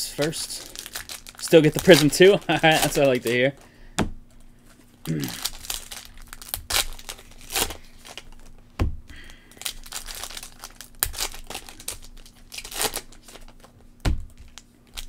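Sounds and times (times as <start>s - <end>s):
wrappers crinkling and tearing: 0.0s - 3.7s, 4.6s - 15.0s.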